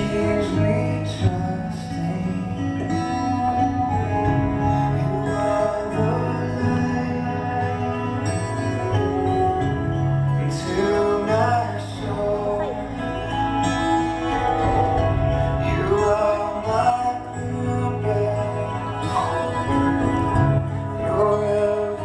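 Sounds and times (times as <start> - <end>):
man singing gospel song: 0.0 - 9.3, 10.3 - 22.0
instrumental accompaniment: 0.0 - 22.0.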